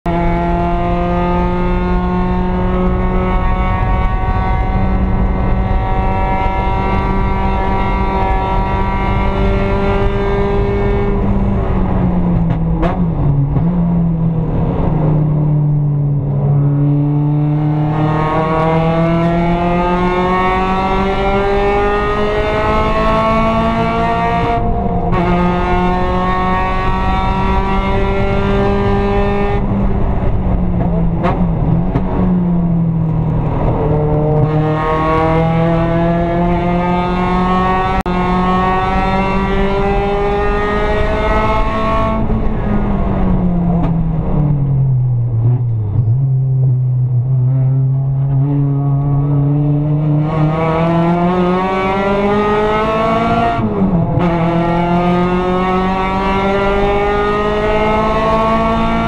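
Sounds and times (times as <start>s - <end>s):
race car engine revving: 0.1s - 59.0s.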